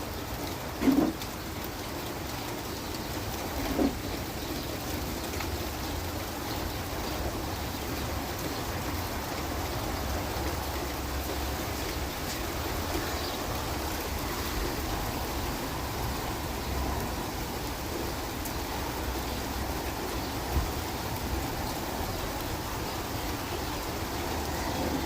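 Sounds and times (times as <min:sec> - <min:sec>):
rain pouring: 0:00.0 - 0:25.0
raindrops ticking on surfaces: 0:00.0 - 0:25.0.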